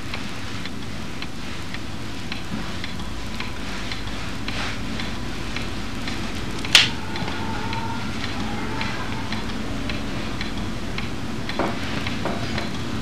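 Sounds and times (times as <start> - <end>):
towel rubbing wet hair: 0.0 - 13.0.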